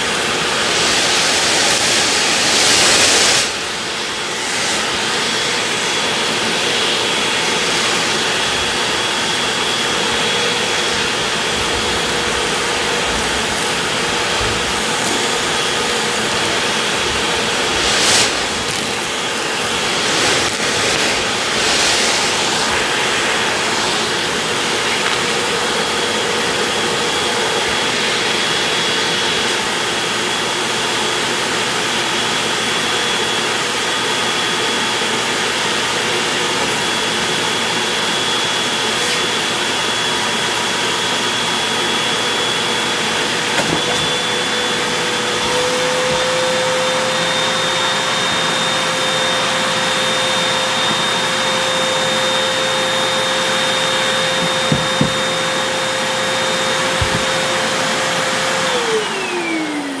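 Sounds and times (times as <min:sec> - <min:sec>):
vacuum cleaner motor whine: 0:00.0 - 1:00.0.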